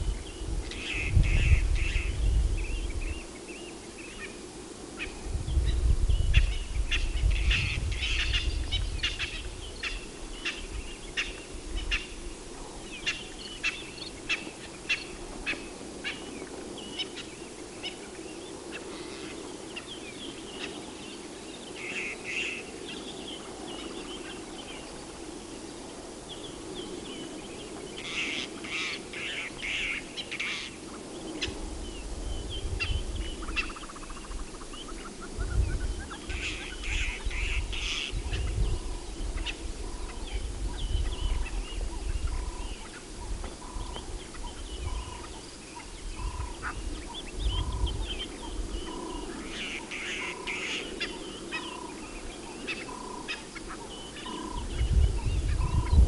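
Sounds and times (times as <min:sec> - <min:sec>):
wind gusts on microphone: 0:00.0 - 0:56.0
birds chirping: 0:05.0 - 0:56.0.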